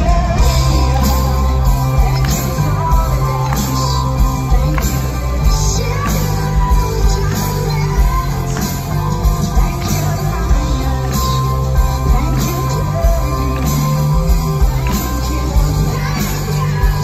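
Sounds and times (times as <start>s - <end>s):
drum kit: 0.0s - 17.0s
rock band playing: 0.0s - 17.0s
woman singing: 0.0s - 17.0s.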